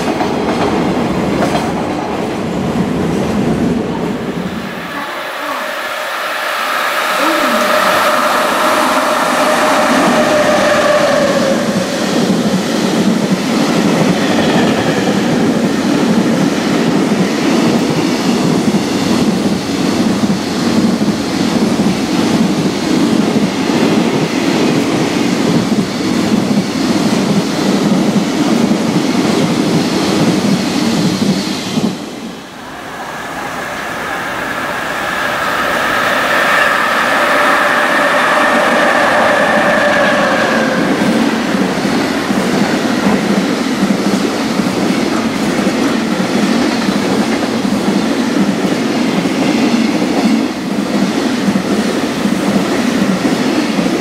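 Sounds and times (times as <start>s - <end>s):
wheels clickety-clack over rail joints: 0.0s - 4.4s, 10.2s - 32.3s, 34.8s - 54.0s
approaching freight train: 0.0s - 54.0s
freight train rumbling past: 0.0s - 54.0s.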